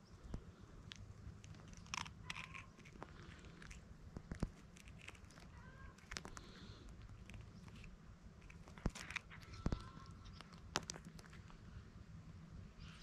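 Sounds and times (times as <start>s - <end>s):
cat chewing crunchy biscuit: 0.4s - 11.7s.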